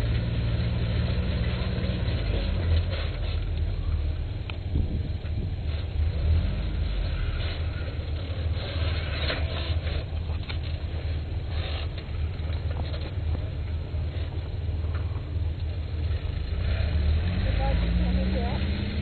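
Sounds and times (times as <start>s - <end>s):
vehicle engine rumbling: 0.0s - 19.0s
crunching or scraping noises: 0.8s - 4.2s, 5.2s - 18.0s.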